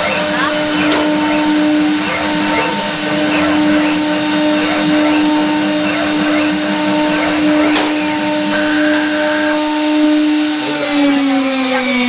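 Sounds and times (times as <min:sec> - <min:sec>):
cutters carving wood: 0:00.0 - 0:12.0
high-pitched motor whine: 0:00.0 - 0:12.0.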